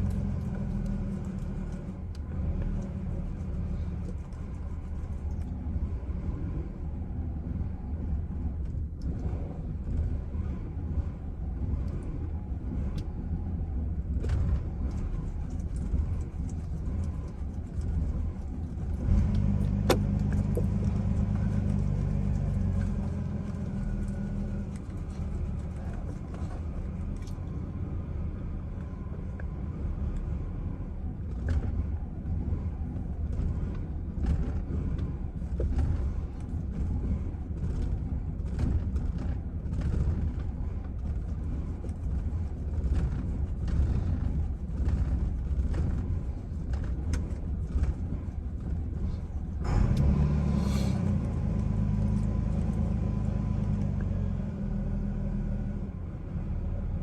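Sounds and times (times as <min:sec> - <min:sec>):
truck engine rough idle: 0:00.0 - 0:57.0.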